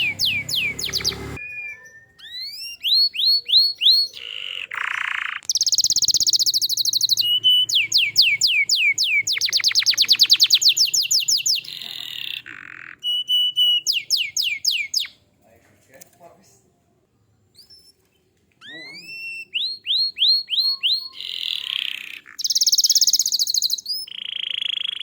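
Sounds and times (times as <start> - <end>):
canary singing: 0.0 - 15.3, 17.4 - 25.0.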